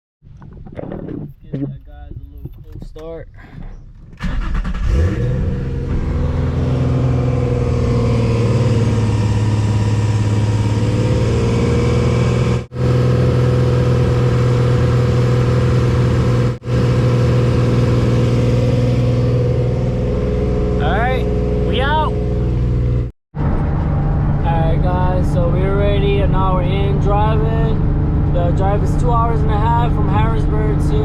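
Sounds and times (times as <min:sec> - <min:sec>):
car engine starting and running: 0:00.3 - 0:31.0.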